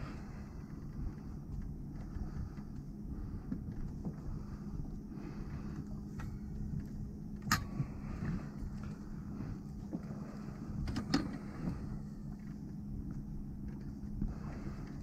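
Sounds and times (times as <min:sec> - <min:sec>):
boat engine hum and rumble: 0:00.0 - 0:15.0.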